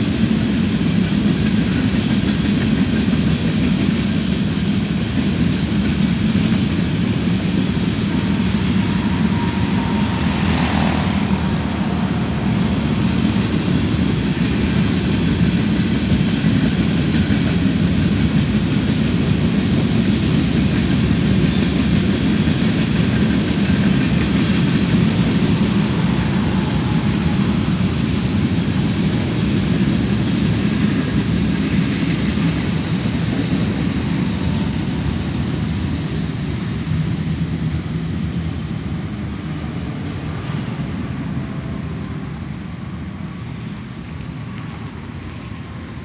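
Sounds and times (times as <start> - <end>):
freight train rolling on rails: 0.0 - 46.0.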